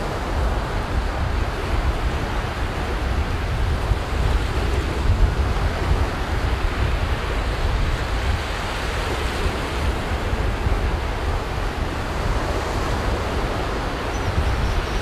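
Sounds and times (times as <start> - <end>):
sea waves washing onto beach: 0.0 - 15.0
wind on microphone: 0.0 - 15.0.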